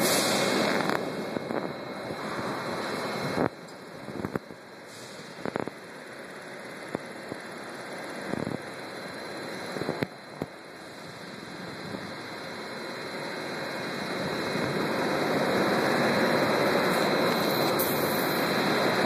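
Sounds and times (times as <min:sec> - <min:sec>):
rail car rolling on track: 0:00.0 - 0:19.0.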